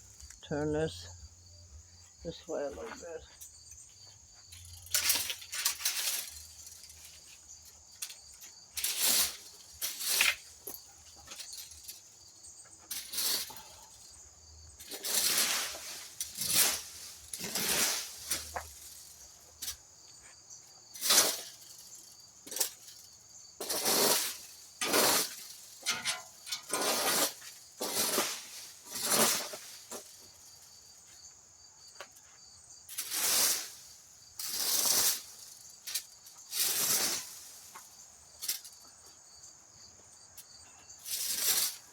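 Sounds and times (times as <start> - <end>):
crickets chirping: 0.0 - 41.9
rake scraping dry leaves: 2.2 - 31.3, 32.4 - 39.4, 40.5 - 41.9.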